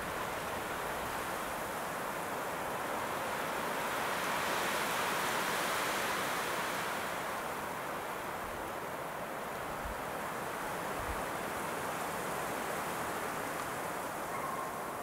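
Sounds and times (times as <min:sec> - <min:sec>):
strong wind rushing through treetops: 0:00.0 - 0:15.0.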